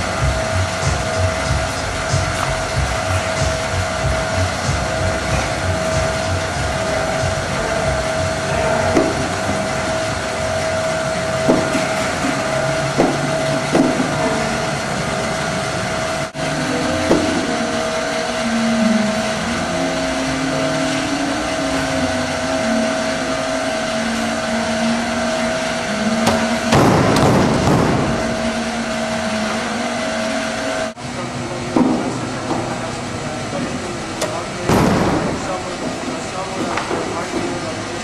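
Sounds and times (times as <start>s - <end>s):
low wavering tone: 0.0s - 31.2s
machine whirring hum: 0.0s - 38.0s.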